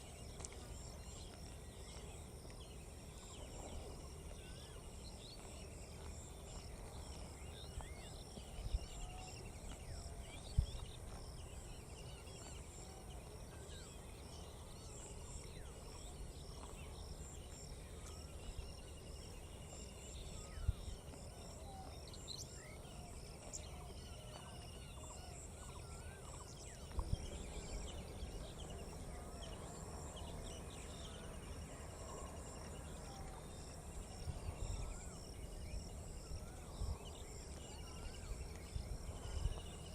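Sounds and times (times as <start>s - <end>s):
insect chorus: 0.0s - 39.9s
small birds chirping: 0.0s - 39.9s.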